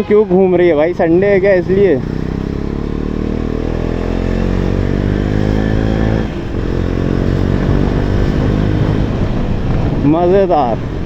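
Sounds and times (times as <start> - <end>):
motorcycle engine accelerating: 0.4 - 11.0.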